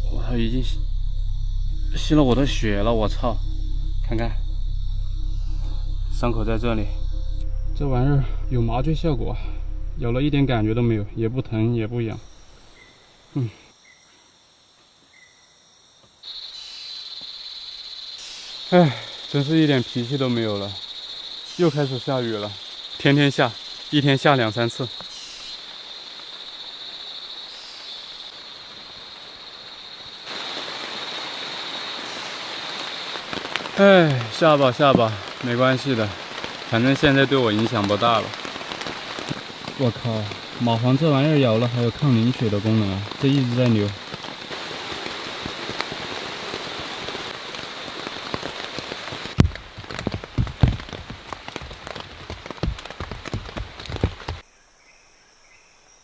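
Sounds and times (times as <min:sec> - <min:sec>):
rain falling: 0:00.0 - 0:13.3, 0:18.5 - 0:54.4
insects chirring: 0:00.0 - 0:56.0.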